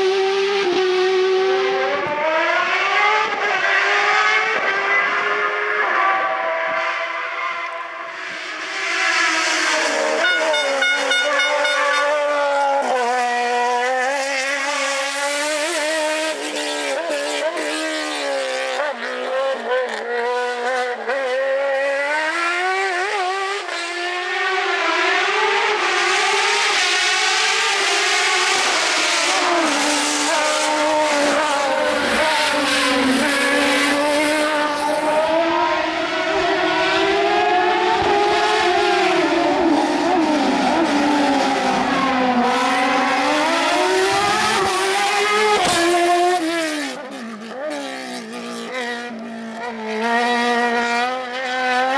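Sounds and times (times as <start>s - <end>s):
motorcycle engine revving hard: 8.7s - 51.9s.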